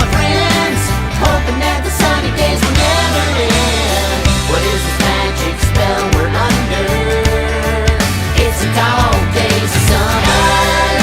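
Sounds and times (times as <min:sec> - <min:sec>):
upbeat pop song: 0:00.0 - 0:11.0.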